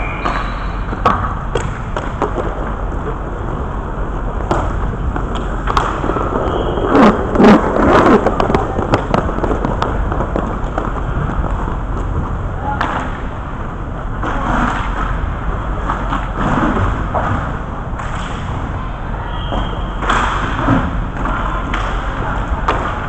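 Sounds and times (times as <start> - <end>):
hockey sticks and puck clacking: 0.0 - 3.2, 4.4 - 13.3, 14.2 - 18.6, 19.5 - 23.0
skate wheels rumbling on floor: 0.0 - 23.0.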